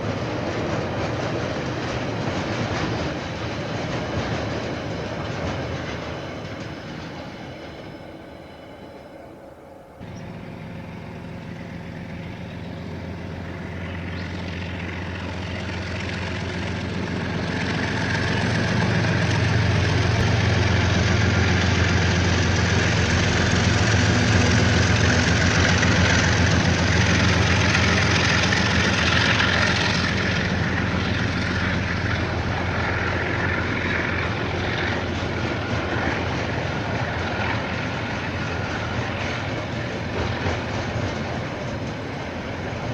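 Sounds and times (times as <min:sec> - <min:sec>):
diesel train passing: 0:00.0 - 0:42.9
rail noise: 0:00.0 - 0:42.9.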